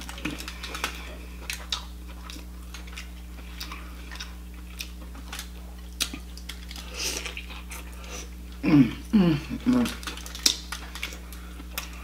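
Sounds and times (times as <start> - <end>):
person chewing close up: 0.0 - 8.6, 9.4 - 12.0.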